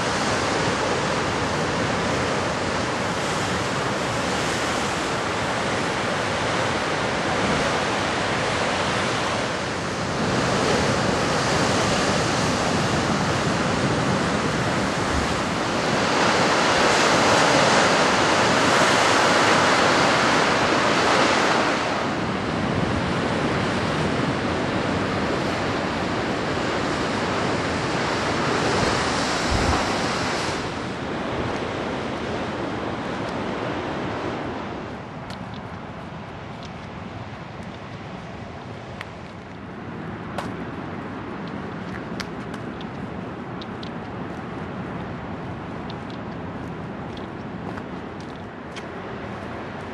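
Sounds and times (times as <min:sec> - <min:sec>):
surf breaking on rocky shore: 0:00.0 - 0:49.9
wind on microphone: 0:00.0 - 0:49.9.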